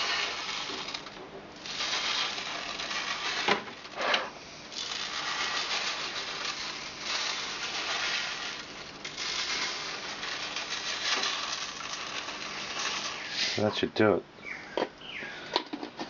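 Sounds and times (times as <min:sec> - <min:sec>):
granules rattling into plastic tub: 0:00.0 - 0:04.2, 0:04.8 - 0:13.7.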